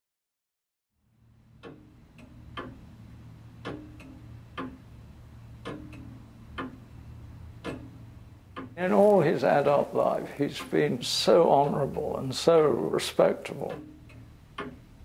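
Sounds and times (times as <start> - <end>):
low steady hum: 1.0 - 15.0
clock ticking: 1.5 - 15.0.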